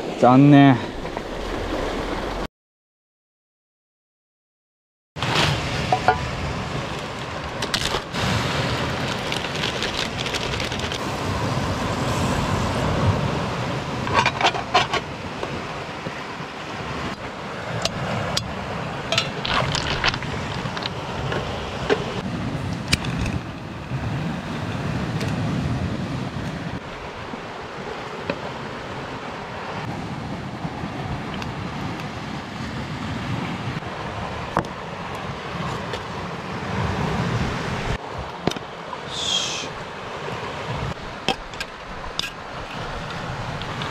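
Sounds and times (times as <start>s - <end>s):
surf washing against rocks: 0.0s - 2.5s, 5.2s - 43.9s.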